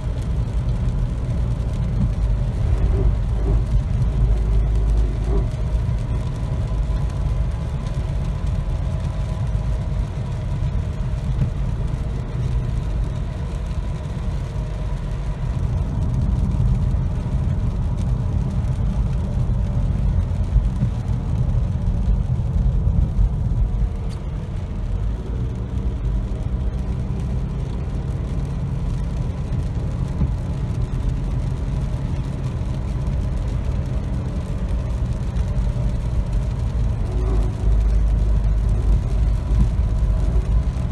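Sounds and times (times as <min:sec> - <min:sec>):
car road rumble: 0:00.0 - 0:40.9.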